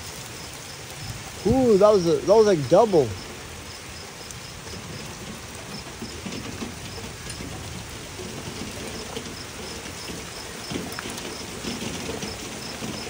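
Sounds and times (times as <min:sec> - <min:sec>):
raindrops tapping on surfaces: 0:00.0 - 0:13.0
steady rain: 0:00.0 - 0:13.0.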